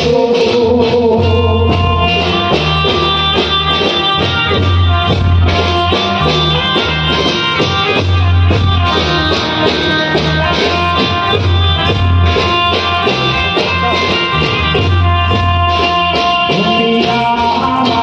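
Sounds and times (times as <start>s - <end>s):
instrumental music with heavy bass: 0.0s - 18.0s.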